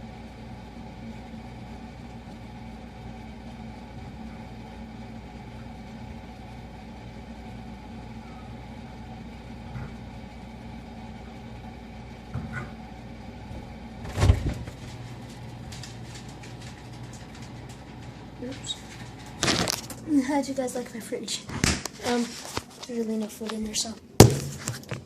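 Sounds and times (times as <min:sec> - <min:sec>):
refrigerator humming: 0:00.0 - 0:25.0.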